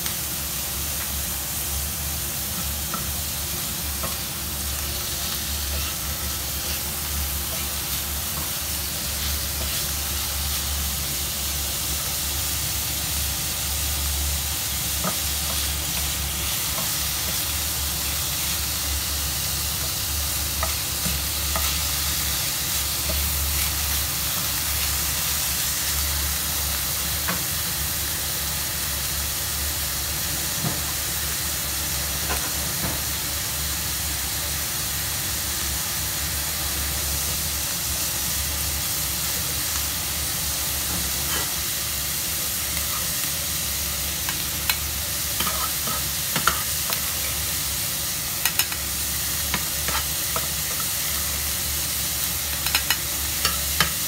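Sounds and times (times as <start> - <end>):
meat and vegetables sizzling: 0.0 - 54.0.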